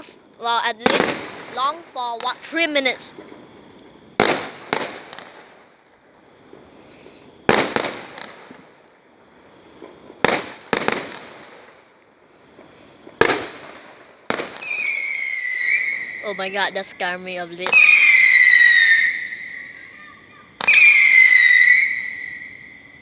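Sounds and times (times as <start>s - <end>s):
fireworks bangs with echo: 0.0s - 23.0s.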